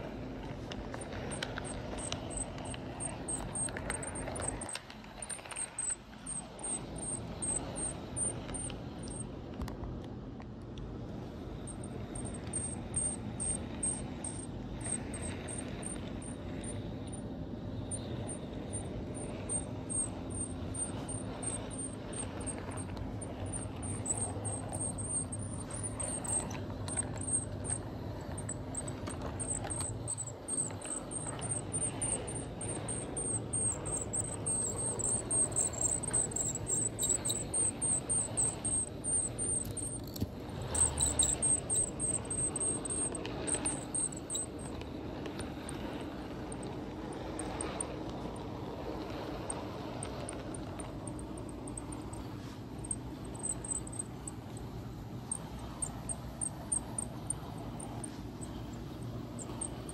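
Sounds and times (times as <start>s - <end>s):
model train humming: 0.0s - 9.2s, 11.6s - 59.9s
high squeaky chirp: 1.2s - 9.2s, 11.7s - 17.2s, 17.9s - 44.7s, 51.0s - 54.4s, 55.3s - 59.9s.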